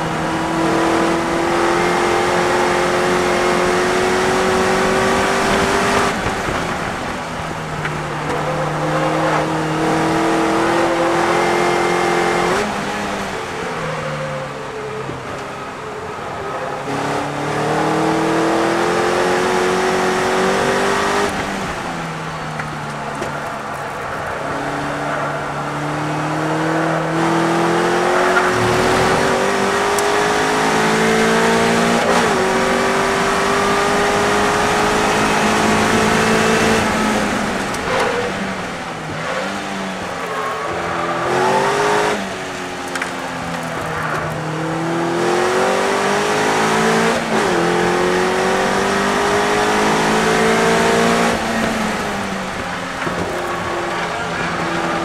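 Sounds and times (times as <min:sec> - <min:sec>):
race car engine revving: 0:00.0 - 0:15.5, 0:16.1 - 0:55.0.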